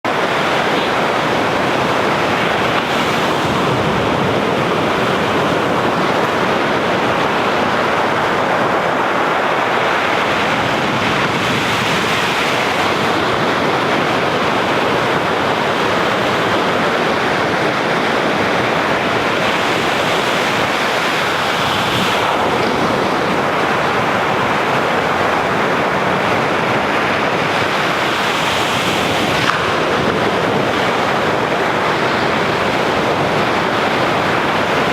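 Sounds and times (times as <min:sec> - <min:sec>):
sea waves breaking ashore: 0:00.0 - 0:34.9
wind buffeting microphone: 0:00.1 - 0:34.9.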